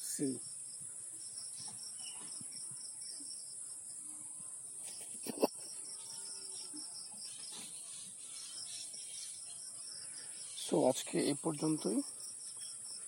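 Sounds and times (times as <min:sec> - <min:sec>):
insects chirring: 0:00.0 - 0:04.0, 0:04.6 - 0:13.0
pulsing insect chirp: 0:00.0 - 0:04.0, 0:04.6 - 0:13.0.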